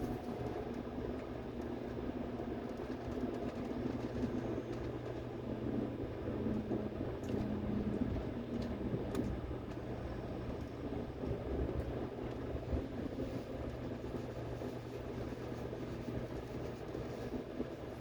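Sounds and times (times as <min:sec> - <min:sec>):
low motor hum: 0:00.0 - 0:18.0
subway train rolling rumble: 0:00.0 - 0:18.0.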